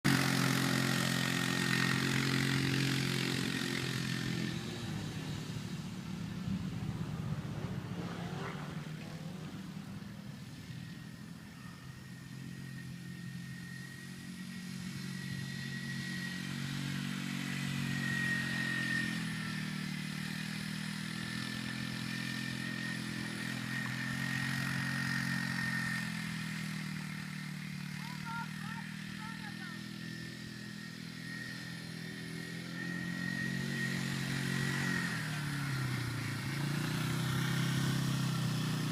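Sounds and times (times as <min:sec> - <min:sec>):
small engine running: 0:00.0 - 0:38.9
thin high whine: 0:04.3 - 0:36.7.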